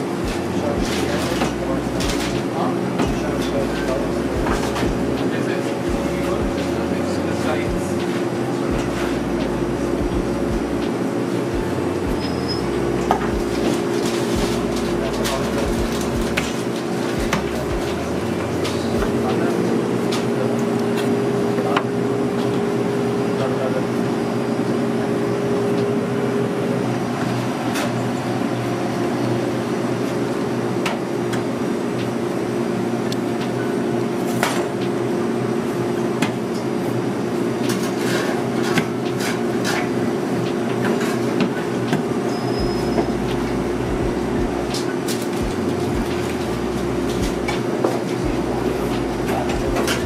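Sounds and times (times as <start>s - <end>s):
machine hum: 0.0s - 50.0s.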